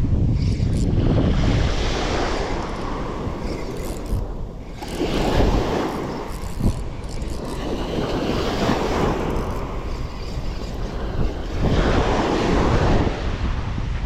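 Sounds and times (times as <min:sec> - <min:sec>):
wind buffeting microphone: 0:00.0 - 0:14.0
sea waves rushing: 0:01.2 - 0:14.0.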